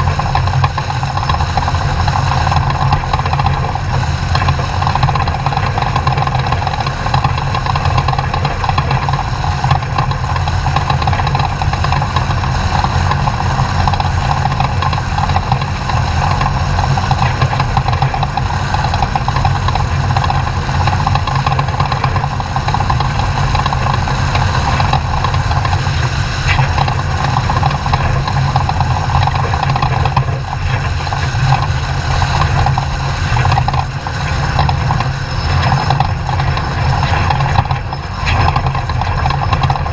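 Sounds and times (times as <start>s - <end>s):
truck engine running steadily: 0.0s - 39.9s.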